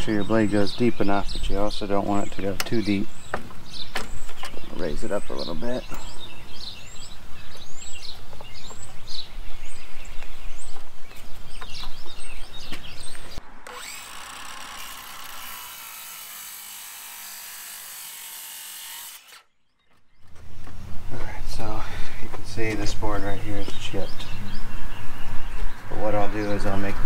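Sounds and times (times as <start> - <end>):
birds chirping: 0.0 - 16.8, 17.4 - 27.0.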